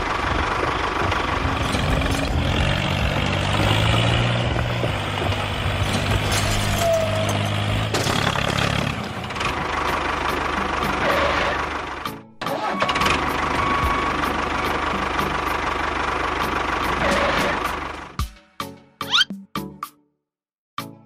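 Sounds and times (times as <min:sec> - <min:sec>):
engine running: 0:00.0 - 0:18.3.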